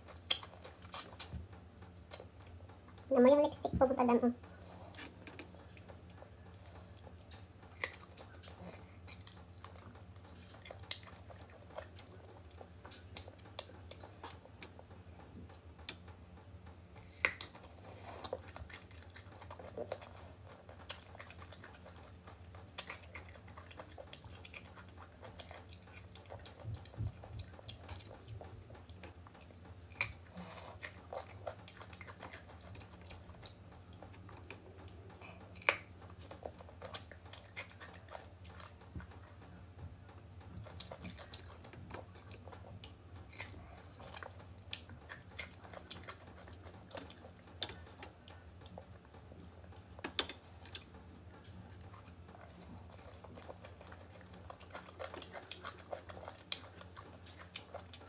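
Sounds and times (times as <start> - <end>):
chewing crisp raw mango: 0.0 - 2.6, 4.4 - 58.0.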